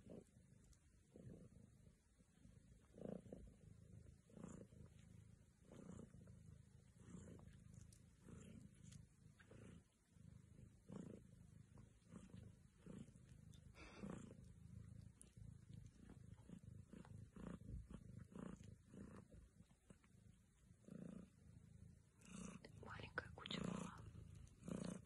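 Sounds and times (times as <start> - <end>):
cat purring faintly: 0.0 - 25.0.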